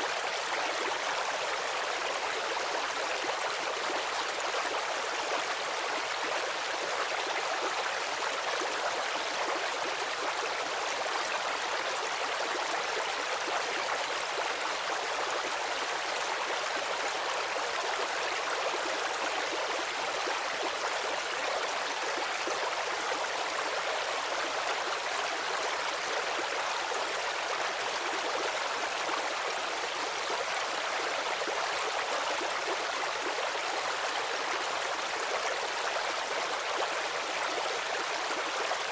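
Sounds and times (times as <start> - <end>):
stream water gurgling: 0.0 - 38.9.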